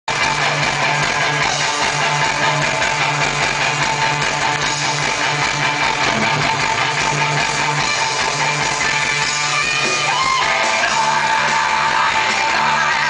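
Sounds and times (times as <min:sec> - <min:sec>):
bass guitar pulsing: 0:00.1 - 0:13.0
punk rock band playing live: 0:00.1 - 0:13.0.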